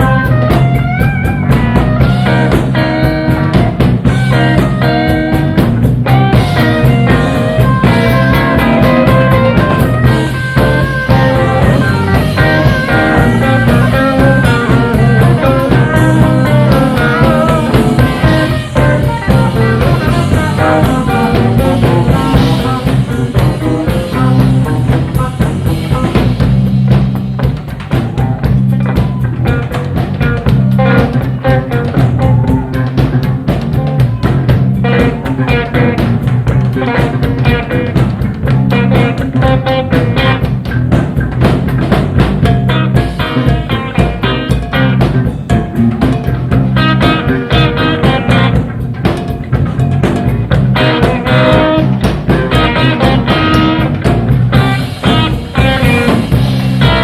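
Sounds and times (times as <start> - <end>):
bass: 0.0 - 57.0
drum kit beat: 0.0 - 57.0
electric guitar lines: 0.0 - 57.0.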